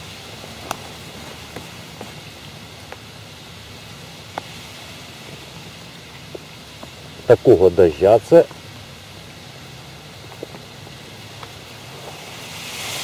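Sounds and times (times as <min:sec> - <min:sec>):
light rain hissing: 0:00.0 - 0:13.0.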